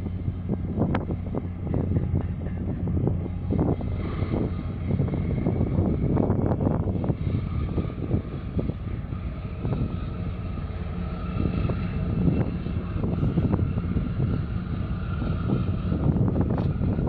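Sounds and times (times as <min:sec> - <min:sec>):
faint steady drone: 0:00.0 - 0:17.0
wind buffeting microphone: 0:00.0 - 0:17.0.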